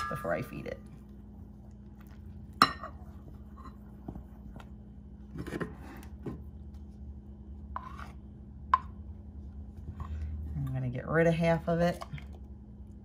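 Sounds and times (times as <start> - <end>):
spoon stirring thick batter: 0.3 - 12.2.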